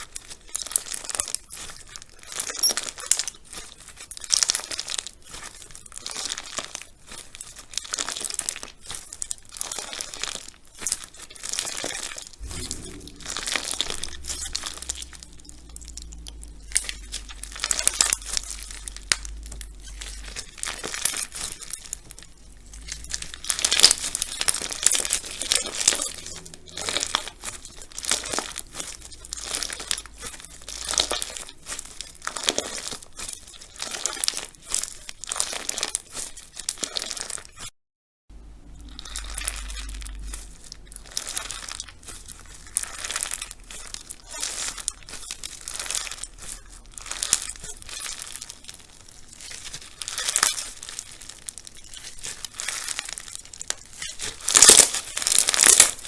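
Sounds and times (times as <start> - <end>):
slime squeezed crackling and popping: 0.0 - 37.7, 38.4 - 56.0.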